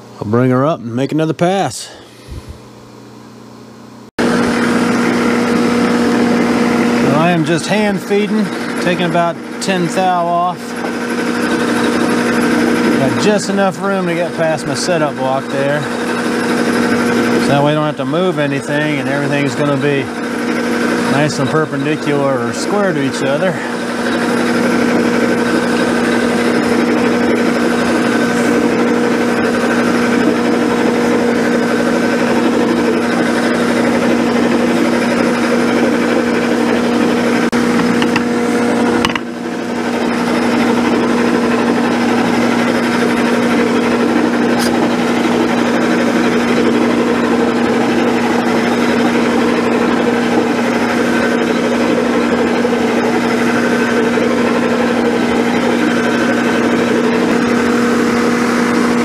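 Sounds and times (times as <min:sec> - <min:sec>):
milling machine motor hum: 0:00.0 - 0:59.0
end mill cutting metal: 0:04.2 - 0:59.0.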